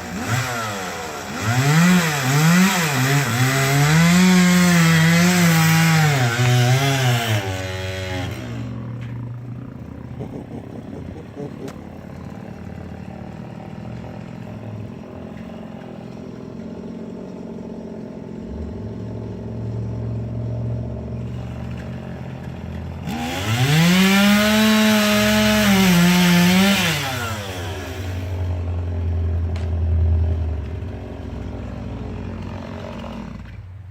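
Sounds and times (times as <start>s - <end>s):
chainsaw idling and revving: 0.0s - 33.9s.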